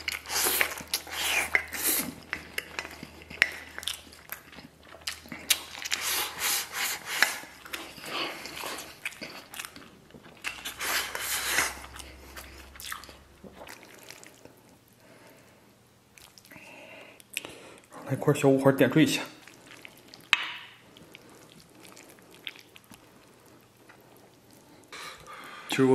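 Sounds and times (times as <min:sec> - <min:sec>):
man chewing with open mouth: 0:00.0 - 0:17.9, 0:19.4 - 0:25.6.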